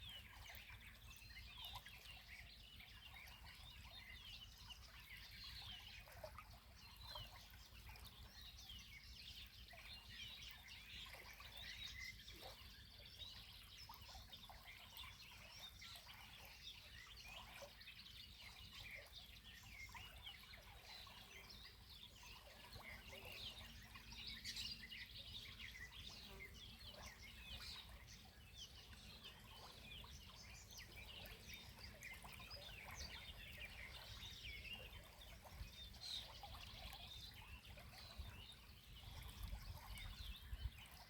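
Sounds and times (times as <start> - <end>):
chorus of songbirds: 0.0 - 41.0.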